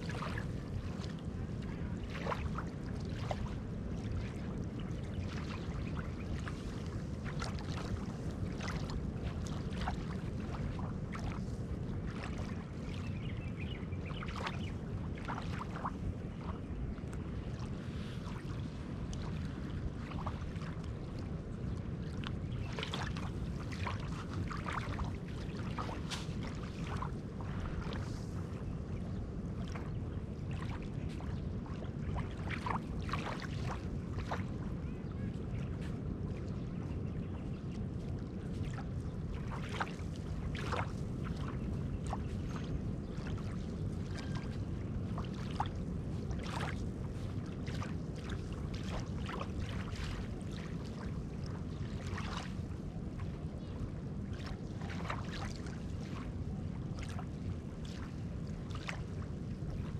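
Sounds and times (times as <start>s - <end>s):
low sea rumble: 0.0s - 59.9s
small waves lapping on sand: 0.0s - 59.9s.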